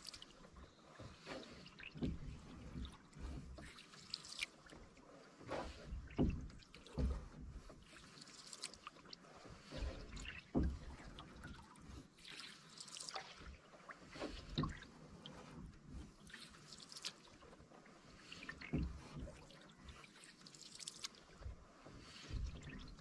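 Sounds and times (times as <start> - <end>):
paddle strokes splashing: 0.0 - 23.0
water dripping off paddle: 0.0 - 23.0.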